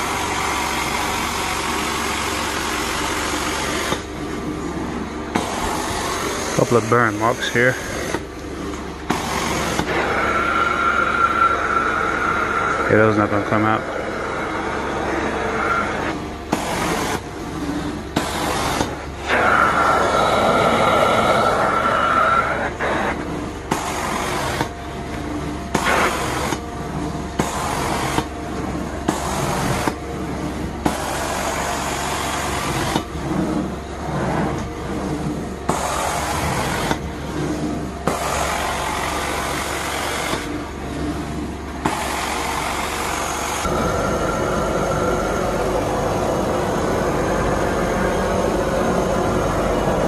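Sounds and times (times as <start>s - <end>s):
carpet cleaning machine suction: 0.0s - 50.0s.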